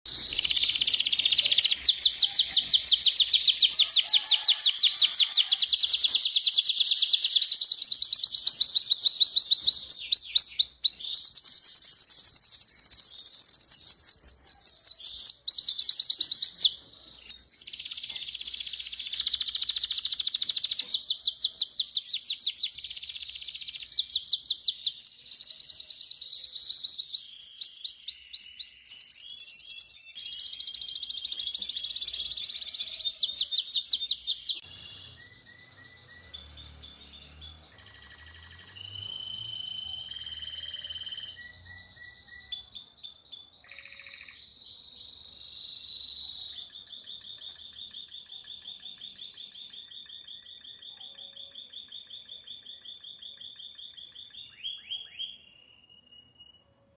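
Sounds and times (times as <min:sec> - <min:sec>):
canary singing rolling trills: 0:00.0 - 0:56.7.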